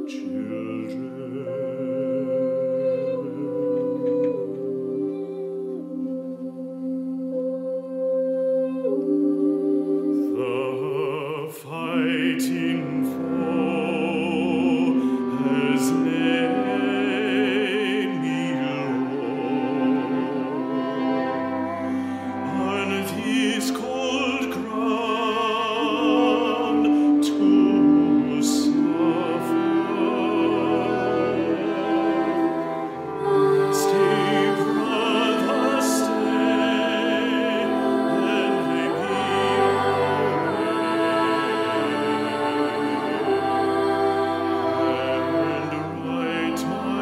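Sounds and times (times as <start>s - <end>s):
classical singing with vibrato: 0.0s - 47.0s
viola and cello chords: 0.0s - 47.0s.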